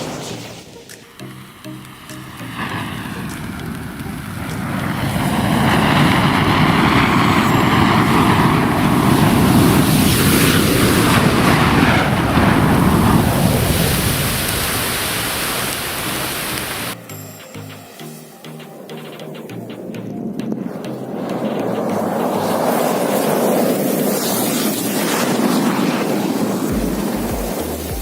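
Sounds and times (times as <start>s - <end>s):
matches burning with rushing hiss: 0.0s - 19.4s, 20.6s - 28.0s.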